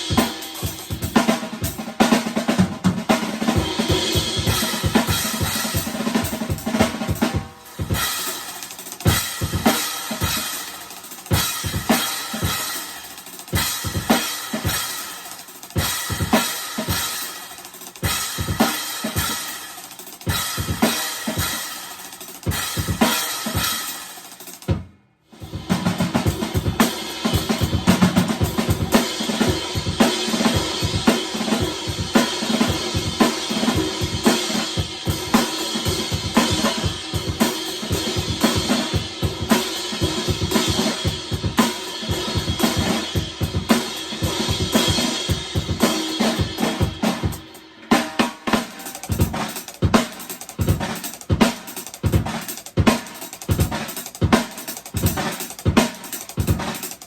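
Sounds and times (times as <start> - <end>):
drum kit playing: 0.0 - 57.0.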